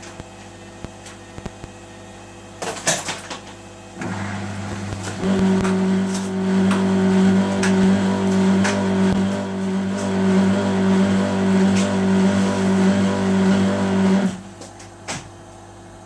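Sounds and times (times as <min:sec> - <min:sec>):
washing machine grinding hum: 0:00.0 - 0:16.0.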